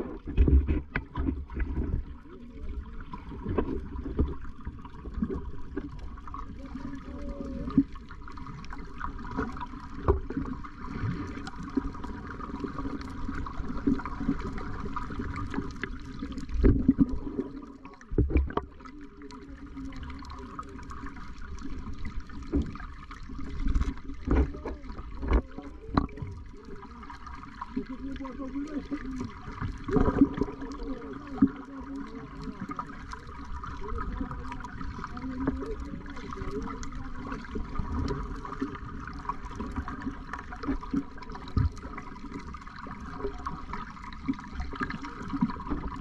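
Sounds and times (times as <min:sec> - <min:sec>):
muffled underwater water noise: 0:00.0 - 0:46.0.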